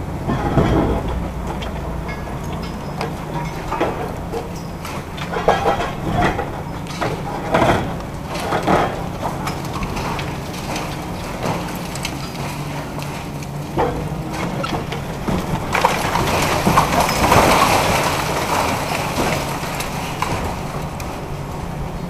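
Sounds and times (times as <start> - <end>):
concrete crunching and cracking: 0.0 - 21.5
diesel engine drone: 0.0 - 22.0
rubble falling: 0.2 - 21.4.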